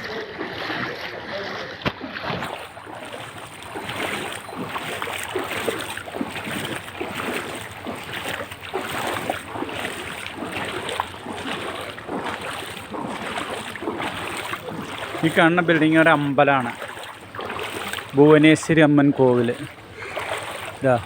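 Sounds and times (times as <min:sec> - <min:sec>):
water sloshing around legs: 0:00.0 - 0:21.0.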